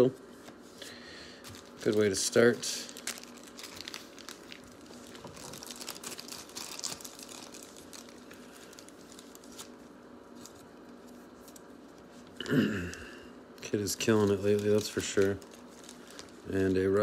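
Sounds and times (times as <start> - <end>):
card packs crinkling and clicking: 1.4 - 17.0.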